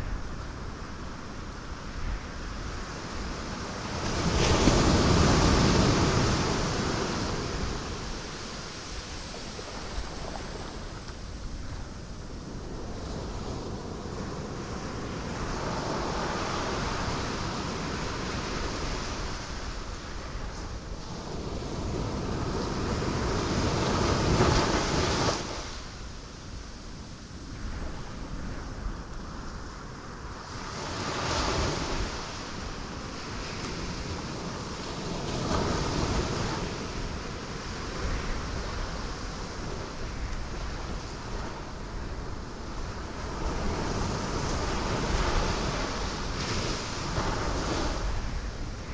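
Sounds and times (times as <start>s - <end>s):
ocean waves breaking on rocks: 2.4s - 26.2s, 28.2s - 48.9s.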